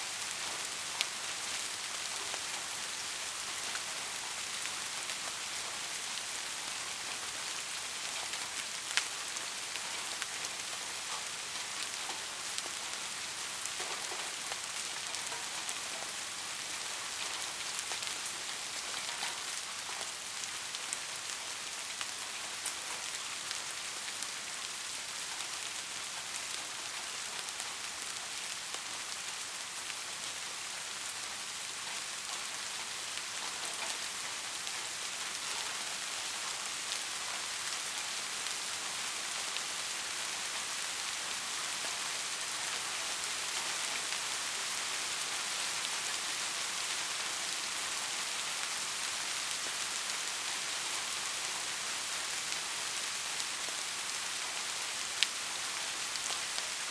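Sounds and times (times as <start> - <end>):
soft rain falling: 0.0 - 56.9.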